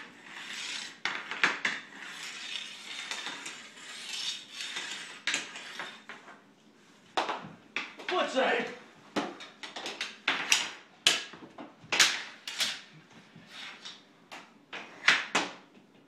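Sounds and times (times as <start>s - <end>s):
hockey sticks clattering on tile: 0.0s - 6.4s, 7.2s - 8.4s, 9.1s - 16.0s.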